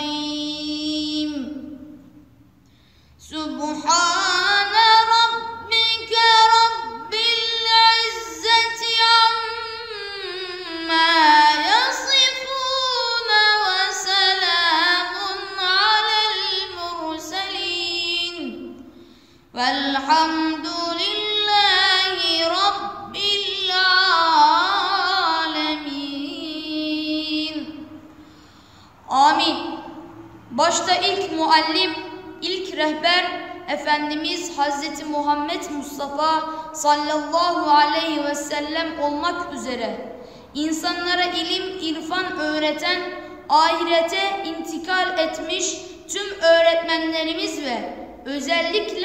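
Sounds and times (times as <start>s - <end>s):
boy reciting melodically: 0.0s - 2.4s, 3.2s - 49.0s.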